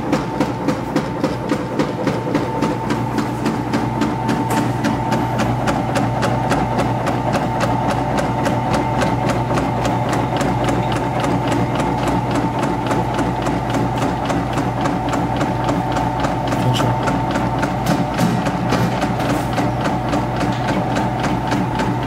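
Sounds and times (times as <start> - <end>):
machine motor hum: 0.0 - 22.0
rapid mechanical clicking: 0.0 - 22.0.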